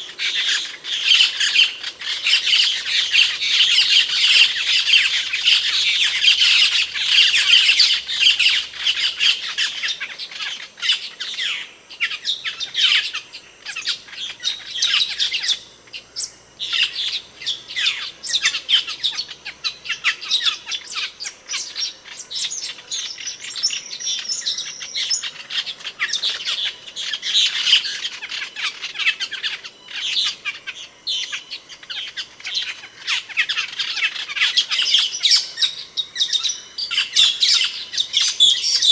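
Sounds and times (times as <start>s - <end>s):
starlings chirping: 0.0s - 38.9s.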